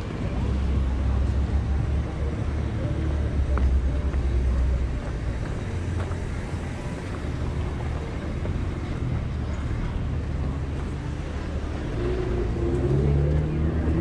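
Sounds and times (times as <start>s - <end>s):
passing vehicle engine rumble: 0.0s - 14.0s
steady traffic noise: 0.0s - 14.0s.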